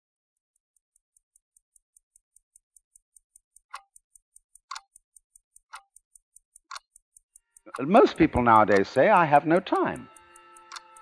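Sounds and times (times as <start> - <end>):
fast light clock ticks: 0.4 - 11.0
louder clock tick: 0.6 - 11.0.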